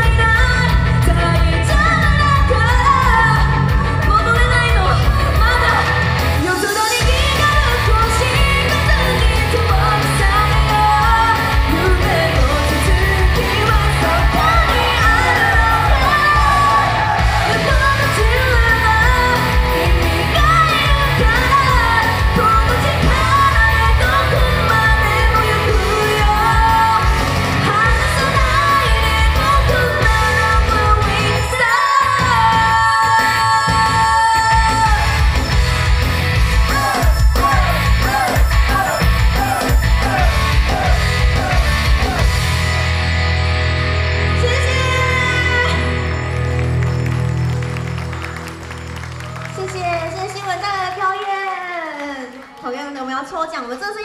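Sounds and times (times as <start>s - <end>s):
woman singing pop-rock live: 0.0s - 42.3s, 44.1s - 46.2s
band accompaniment: 0.0s - 49.7s.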